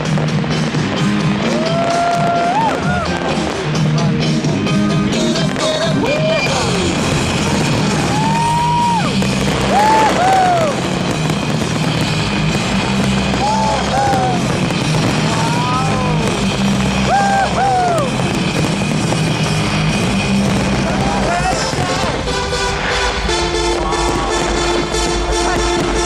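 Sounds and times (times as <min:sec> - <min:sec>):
crowd: 0:00.0 - 0:26.0
loud music: 0:00.0 - 0:26.0.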